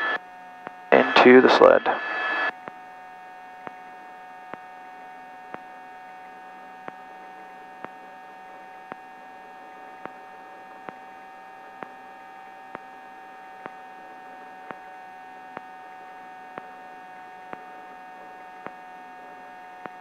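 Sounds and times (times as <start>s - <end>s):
helicopter turbine whine: 0.0s - 19.8s.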